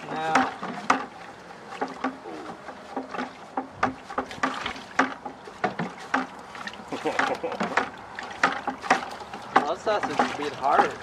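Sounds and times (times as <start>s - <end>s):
water splashing in plastic bucket: 0.0s - 11.0s
knocks against bucket: 0.1s - 1.1s, 1.8s - 6.4s, 7.0s - 11.0s.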